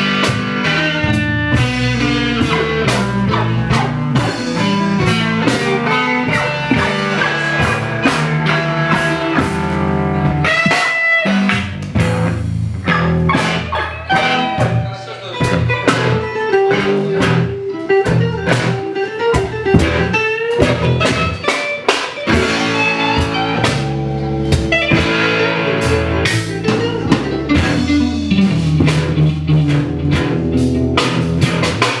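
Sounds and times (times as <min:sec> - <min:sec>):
bass: 0:00.0 - 0:32.0
drum kit beat: 0:00.0 - 0:32.0
guitar: 0:00.0 - 0:32.0
reggae band playing: 0:00.0 - 0:32.0.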